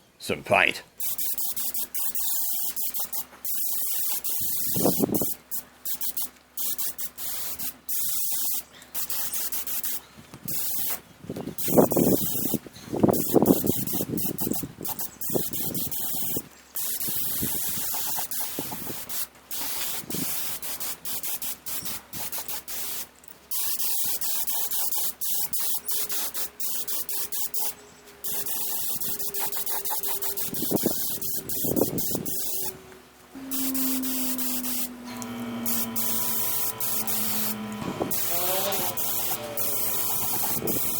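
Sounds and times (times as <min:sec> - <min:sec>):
spray paint can hissing: 0:01.0 - 0:11.0, 0:11.6 - 0:32.8, 0:33.5 - 0:35.0, 0:35.6 - 0:40.9.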